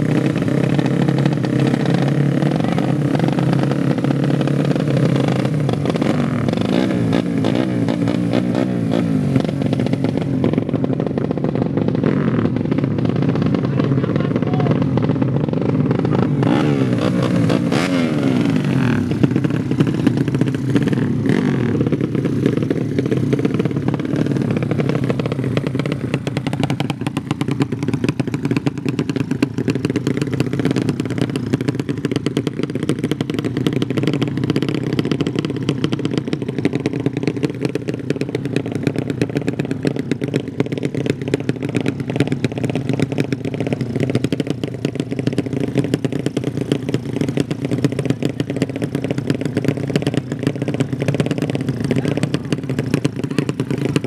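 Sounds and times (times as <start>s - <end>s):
motorcycle engines running: 0.0s - 54.0s.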